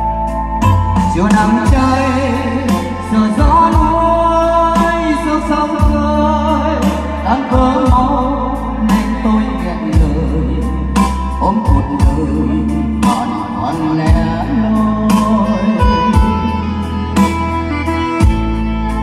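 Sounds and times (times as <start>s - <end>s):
backing track with bass and drums: 0.0s - 19.0s
man singing into microphone: 0.9s - 17.5s.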